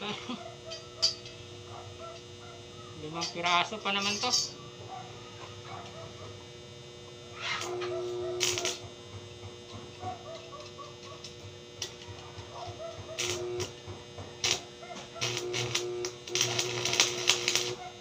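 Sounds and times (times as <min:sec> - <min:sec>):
loud noisy welding bursts: 0:00.0 - 0:02.4, 0:03.0 - 0:04.9, 0:05.6 - 0:18.0
welding machine electrical hum: 0:00.0 - 0:18.0.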